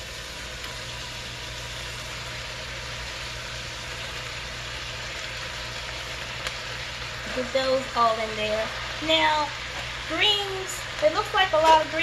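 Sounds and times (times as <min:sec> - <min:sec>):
onion and greens sizzling in oil: 0:00.0 - 0:12.0.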